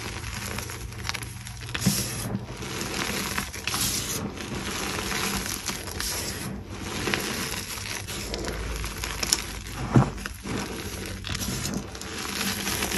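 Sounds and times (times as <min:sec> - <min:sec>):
chalk crunching and crackling: 0:00.0 - 0:12.9.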